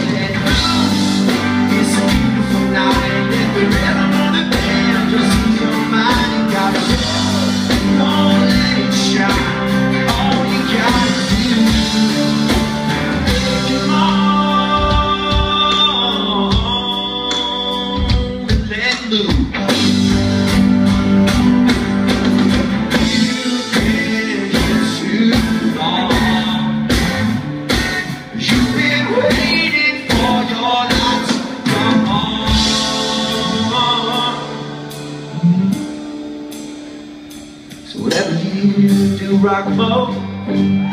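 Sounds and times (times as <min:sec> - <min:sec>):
person singing: 0:00.0 - 0:21.3, 0:22.4 - 0:27.0, 0:28.2 - 0:36.6, 0:37.8 - 0:40.9
live rock band playing: 0:00.0 - 0:40.9.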